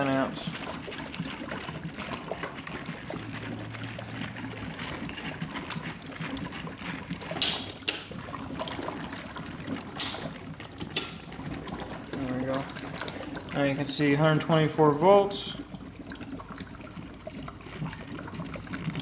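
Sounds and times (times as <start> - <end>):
gas bubbling through water: 0.0 - 19.0.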